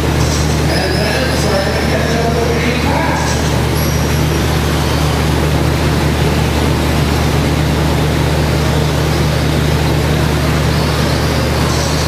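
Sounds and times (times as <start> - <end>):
continuous low hum: 0.0 - 12.0.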